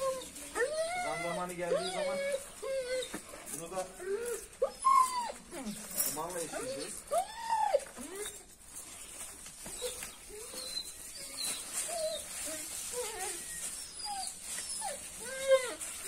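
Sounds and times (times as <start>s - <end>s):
dog whimpering: 0.0s - 8.5s, 9.7s - 16.0s.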